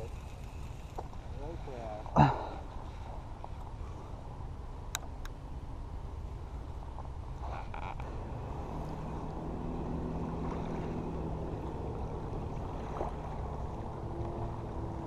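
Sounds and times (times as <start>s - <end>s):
faint engine hum: 0.0s - 15.0s
wind and water rumble: 0.0s - 15.0s.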